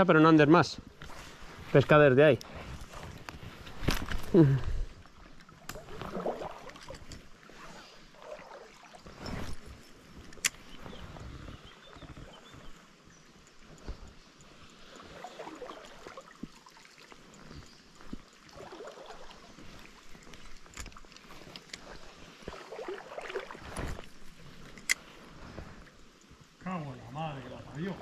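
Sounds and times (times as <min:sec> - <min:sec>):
river water splashing: 0:01.1 - 0:28.0.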